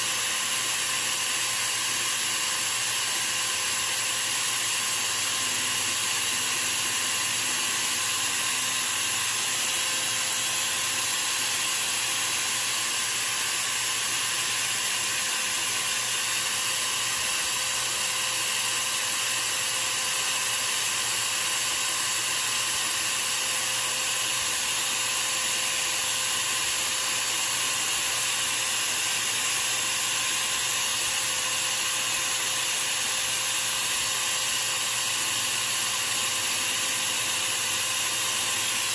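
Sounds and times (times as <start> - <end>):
file hissing on turning wood: 0.0 - 38.9
small motor whining: 0.0 - 38.9.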